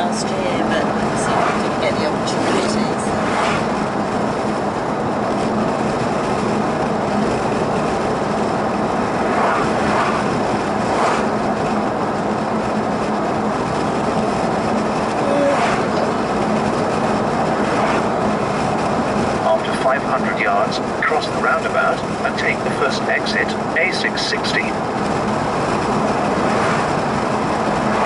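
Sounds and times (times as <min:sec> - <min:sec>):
passing vehicles whooshing: 0:00.0 - 0:22.3, 0:24.6 - 0:28.0
car engine cruising: 0:00.0 - 0:28.0
tyres on tarmac: 0:00.0 - 0:28.0.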